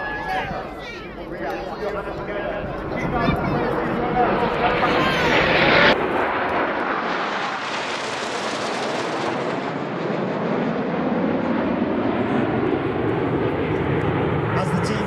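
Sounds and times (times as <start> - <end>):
jet aircraft roar overhead: 0.0 - 15.0.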